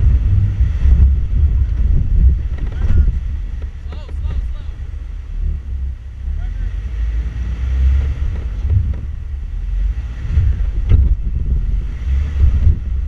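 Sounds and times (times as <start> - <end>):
vehicle engine running: 0.0 - 13.0
wind buffeting microphone: 0.0 - 13.0.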